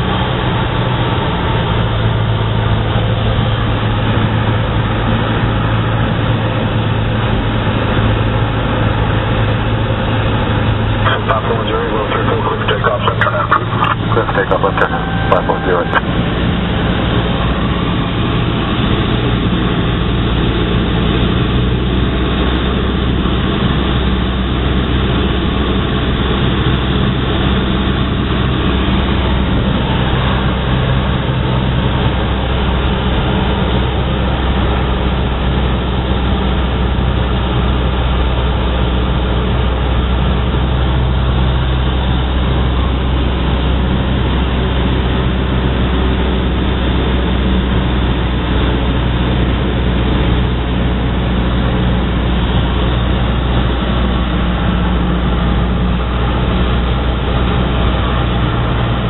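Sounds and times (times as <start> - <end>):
aircraft engine droning in cockpit: 0.0 - 59.0.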